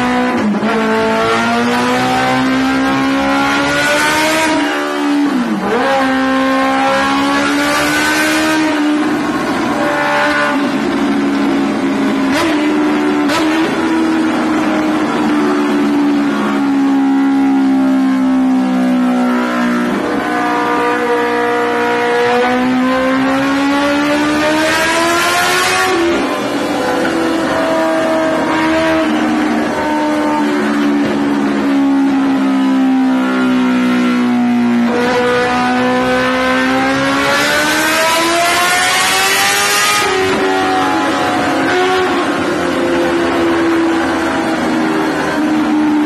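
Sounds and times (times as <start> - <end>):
motorcycle engine revving on a dyno: 0.0 - 46.0.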